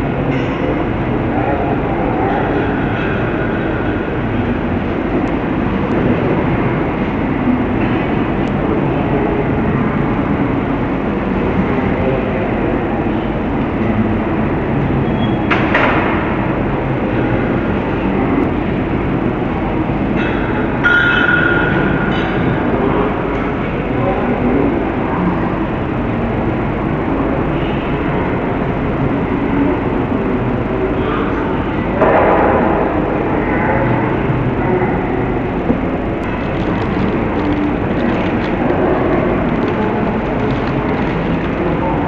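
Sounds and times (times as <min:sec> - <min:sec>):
loud rumbling noise: 0:00.0 - 0:42.0.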